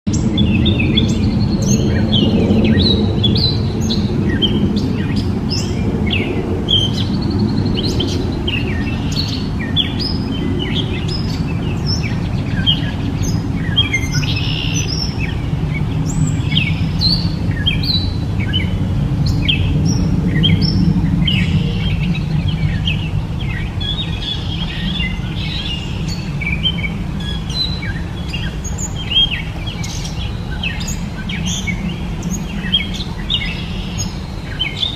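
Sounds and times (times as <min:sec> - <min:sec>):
bird singing varied chirps: 0:00.1 - 0:34.9
low background rumble: 0:00.2 - 0:34.9.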